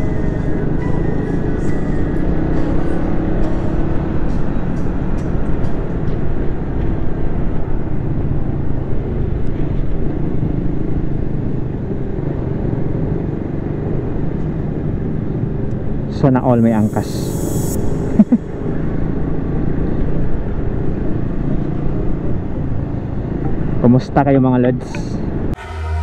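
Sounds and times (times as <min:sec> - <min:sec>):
motorcycle engine at speed: 0:00.0 - 0:16.4, 0:17.3 - 0:24.0
wind rumble: 0:00.0 - 0:24.2.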